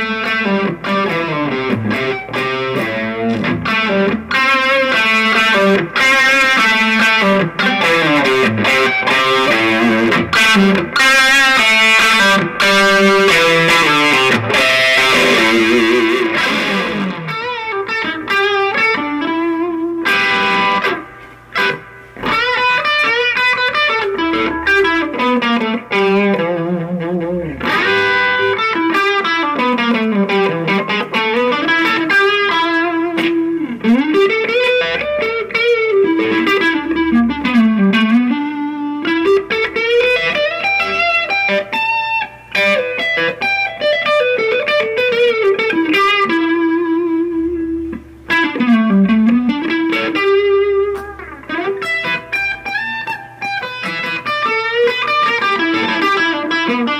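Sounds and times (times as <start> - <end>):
distorted electric guitar: 0.0 - 56.9.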